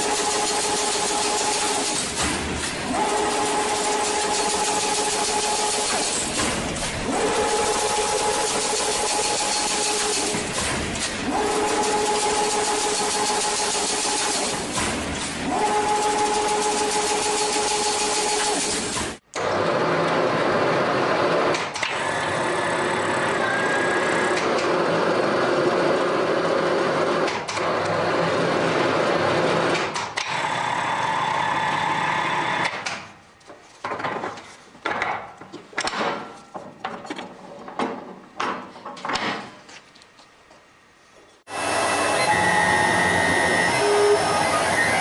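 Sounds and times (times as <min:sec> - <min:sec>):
factory machinery running: 0:00.0 - 0:32.8, 0:41.5 - 0:45.0.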